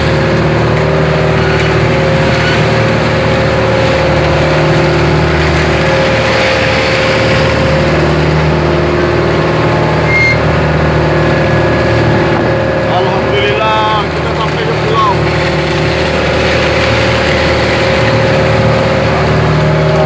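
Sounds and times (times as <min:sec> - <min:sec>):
boat engine running steadily: 0:00.0 - 0:20.0.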